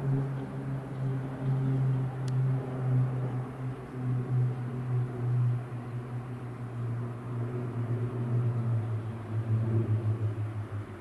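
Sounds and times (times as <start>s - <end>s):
propeller aircraft flying overhead: 0.0s - 11.0s.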